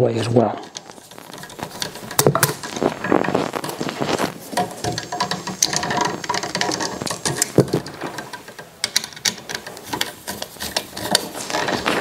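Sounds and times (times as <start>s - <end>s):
screwdriver clicking and scraping: 0.6s - 12.0s.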